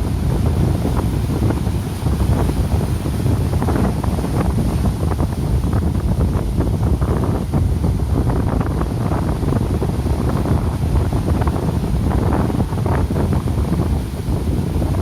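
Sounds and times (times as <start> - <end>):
heavy surf: 0.0 - 15.0
wind buffeting microphone: 0.0 - 15.0.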